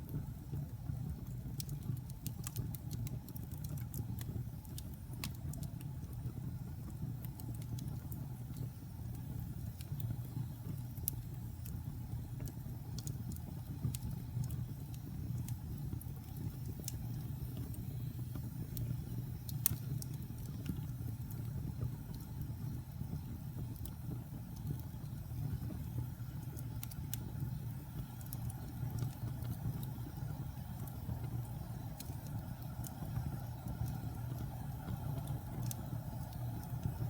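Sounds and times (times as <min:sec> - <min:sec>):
fire roaring low: 0:00.0 - 0:37.0
wood fire crackling and popping: 0:00.0 - 0:37.0.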